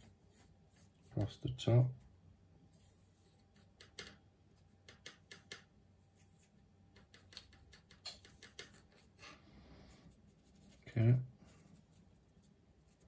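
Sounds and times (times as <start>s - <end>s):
scratchy brush strokes: 0.0s - 4.0s, 6.0s - 13.0s.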